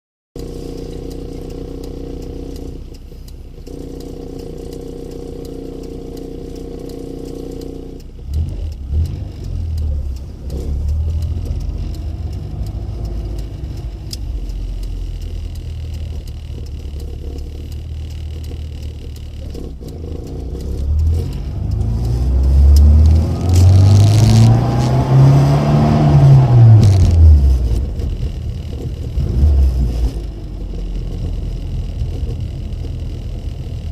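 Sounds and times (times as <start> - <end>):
car engine and exhaust revving: 0.4 - 33.9.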